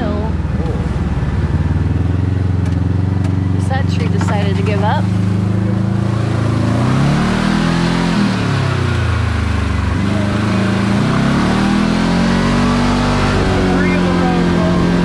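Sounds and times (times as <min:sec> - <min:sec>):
vehicle engine driving: 0:00.0 - 0:15.0
wind and tyre noise: 0:00.1 - 0:15.0.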